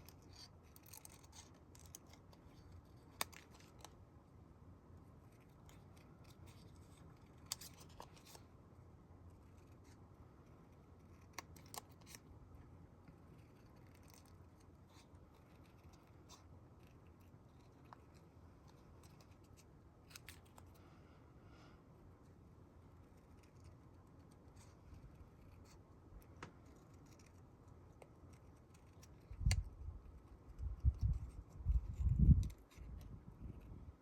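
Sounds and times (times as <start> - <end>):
small scissors snipping paper: 0.0 - 4.0, 5.2 - 8.4, 9.4 - 12.3, 13.1 - 20.8, 23.0 - 33.7.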